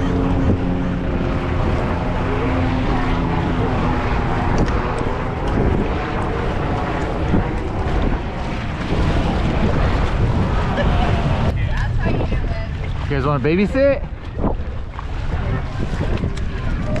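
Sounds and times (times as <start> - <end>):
motorboat engine drone: 0.0 - 17.0
wind rumbling on microphone: 0.0 - 17.0.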